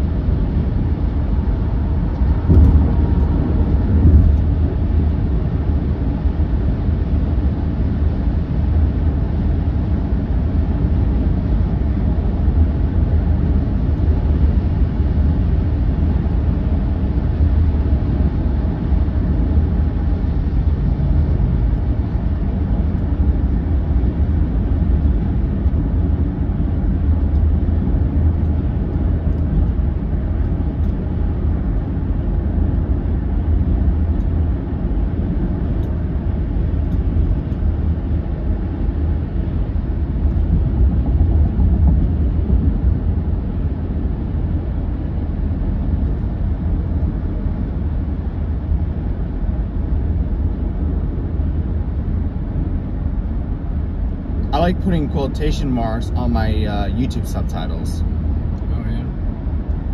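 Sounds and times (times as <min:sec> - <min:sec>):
car road noise inside cabin: 0:00.0 - 0:59.9.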